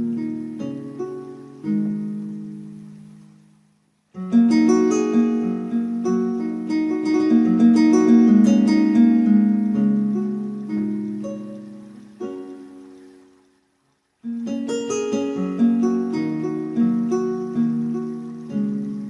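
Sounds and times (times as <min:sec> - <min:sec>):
synthesized plucked strings: 0:00.0 - 0:03.6, 0:04.2 - 0:13.3, 0:14.2 - 0:19.0.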